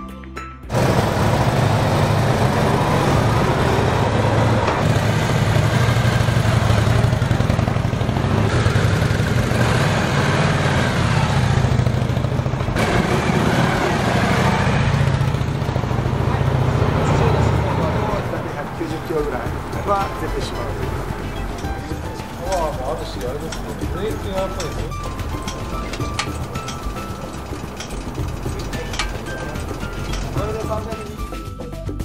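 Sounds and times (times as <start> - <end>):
motorcycle engine running: 0.7 - 32.0.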